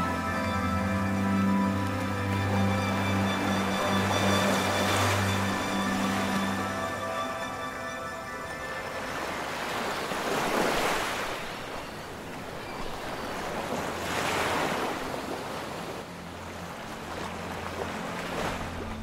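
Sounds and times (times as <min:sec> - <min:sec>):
waves breaking on a beach: 0:00.0 - 0:19.0.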